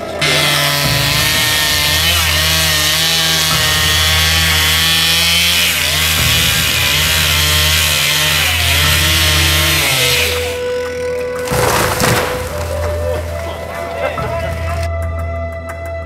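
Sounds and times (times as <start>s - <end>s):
chainsaw cutting wood: 0.0s - 13.7s.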